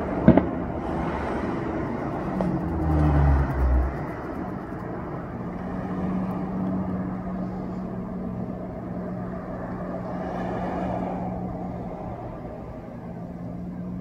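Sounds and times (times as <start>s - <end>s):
background rush of noise: 0.0s - 14.0s.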